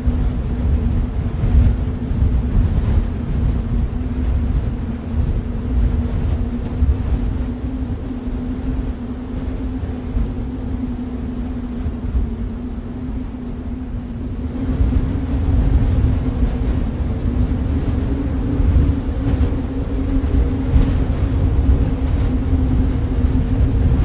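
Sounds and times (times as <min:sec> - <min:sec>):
constant droning hum: 0:00.0 - 0:24.0
snowstorm wind rumble: 0:00.0 - 0:24.0.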